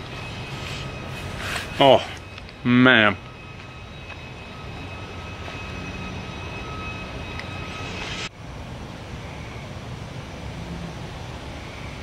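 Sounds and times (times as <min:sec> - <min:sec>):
faint high hum: 0:00.0 - 0:12.0
outdoor background rumble: 0:00.0 - 0:12.0.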